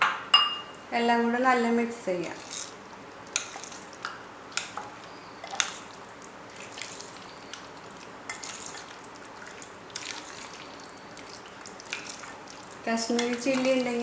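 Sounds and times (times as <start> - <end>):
wet squelching of marinade stirring: 0.7 - 14.0.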